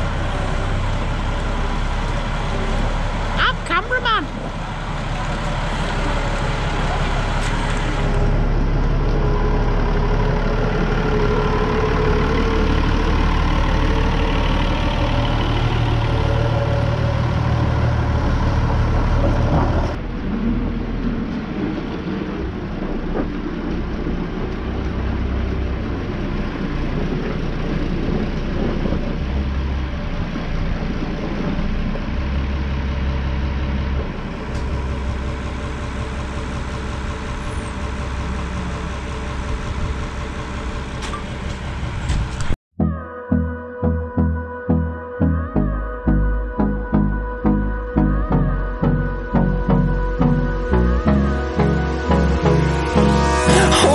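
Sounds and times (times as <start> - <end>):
tractor diesel engine running: 0.0 - 42.6, 45.6 - 53.9.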